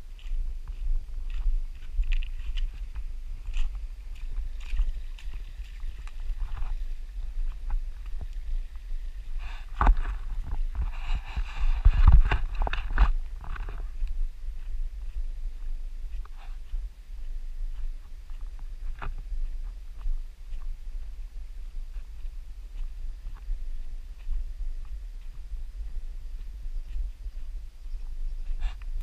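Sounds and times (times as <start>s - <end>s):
footsteps on stony trail: 0.0s - 29.0s
low rumble: 0.0s - 29.0s.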